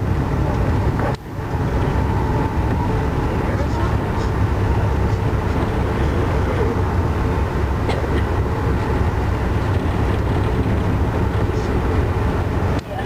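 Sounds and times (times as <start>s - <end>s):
train running noise from inside: 0.0s - 13.0s.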